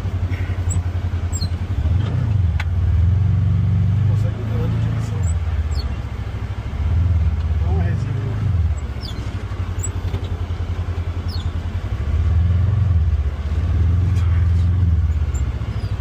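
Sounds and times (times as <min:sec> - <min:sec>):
utility vehicle engine running: 0:00.0 - 0:16.0.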